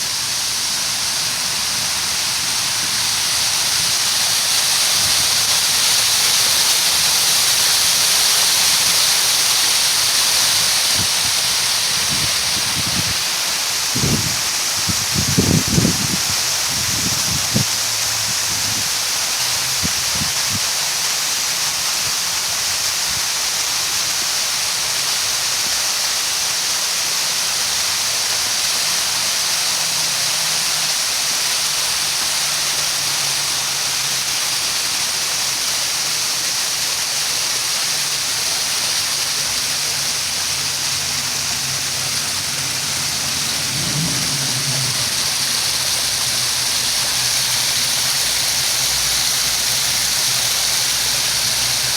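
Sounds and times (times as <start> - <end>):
fountain water splashing: 0.0 - 51.9.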